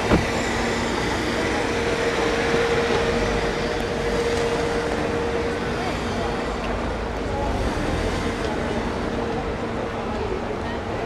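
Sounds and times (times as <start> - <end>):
faint crowd murmur: 0.0 - 11.0.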